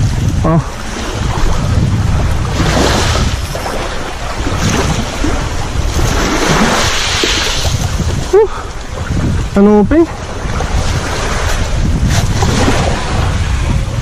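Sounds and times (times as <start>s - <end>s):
sea waves: 0.0s - 14.0s
wind buffeting microphone: 0.0s - 14.0s.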